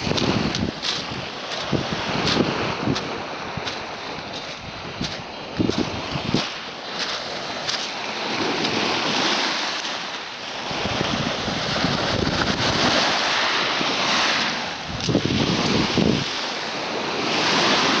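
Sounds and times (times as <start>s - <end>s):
wind buffeting microphone: 0.0s - 9.4s, 10.6s - 18.0s
surf over pebble shore: 0.0s - 18.0s.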